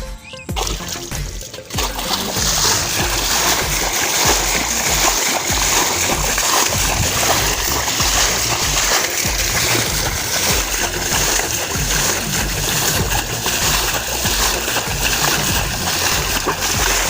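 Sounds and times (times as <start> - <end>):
water splashing and sloshing: 0.1 - 17.0.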